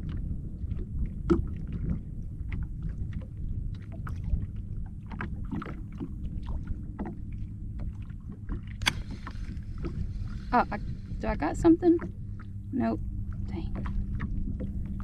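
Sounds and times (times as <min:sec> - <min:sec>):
ripples lapping against kayak hull: 0:00.0 - 0:15.0
steady low rumble: 0:00.0 - 0:15.0.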